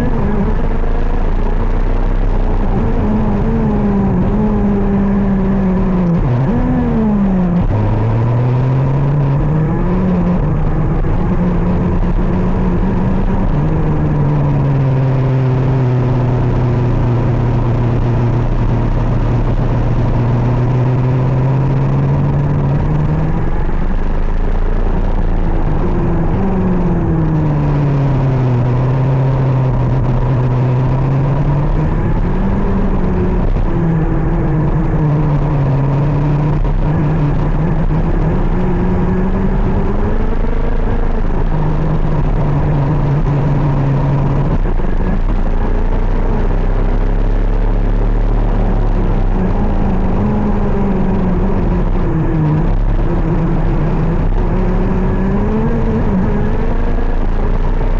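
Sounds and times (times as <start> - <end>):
two-stroke kart engine revving: 0.0 - 57.9.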